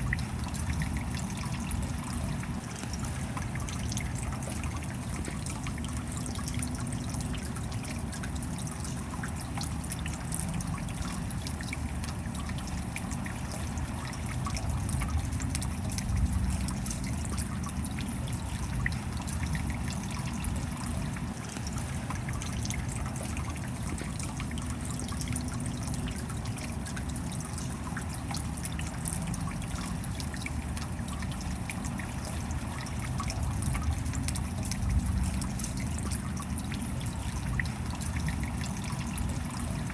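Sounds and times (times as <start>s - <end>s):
steady rain patter: 0.0s - 39.9s
water trickling and dripping: 0.0s - 39.9s.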